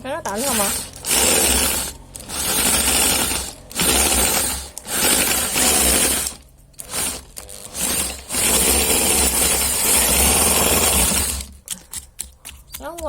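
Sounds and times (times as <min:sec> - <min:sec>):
electric drill driving grinder: 0:00.2 - 0:11.6.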